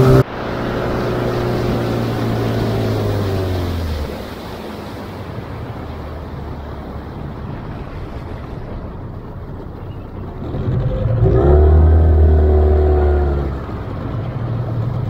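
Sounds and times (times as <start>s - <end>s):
boat motor running: 0.0s - 15.0s
rushing water and wind: 0.0s - 15.0s.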